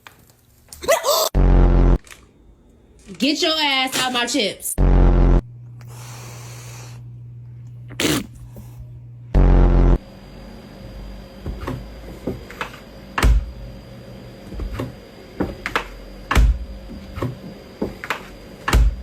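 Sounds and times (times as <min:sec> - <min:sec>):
faint hum: 0:00.9 - 0:19.0.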